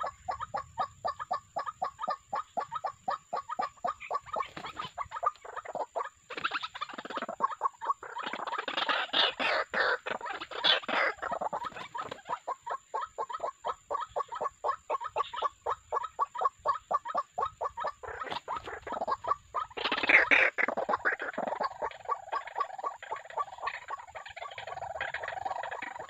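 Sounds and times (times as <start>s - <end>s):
waterhens harsh croaking calls: 0.0s - 26.0s.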